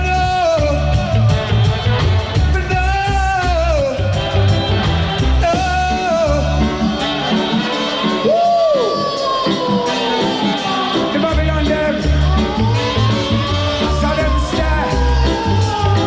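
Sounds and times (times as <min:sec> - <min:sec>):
heavy bass line: 0:00.0 - 0:16.0
person singing: 0:00.0 - 0:16.0
reggae band playing: 0:00.0 - 0:16.0.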